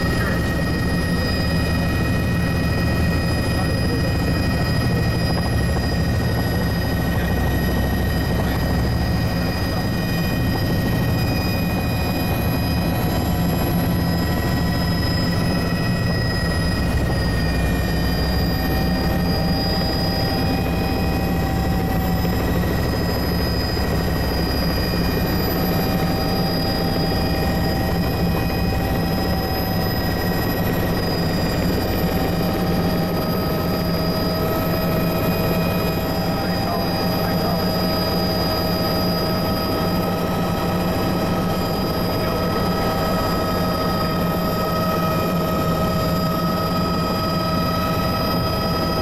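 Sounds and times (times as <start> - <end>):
helicopter engine and rotor: 0.0 - 49.0.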